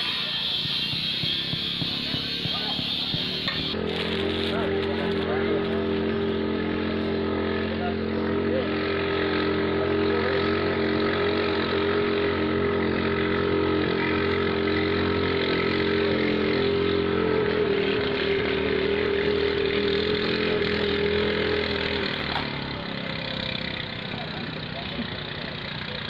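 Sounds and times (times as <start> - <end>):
small boat engine buzzing: 0.0 - 26.0.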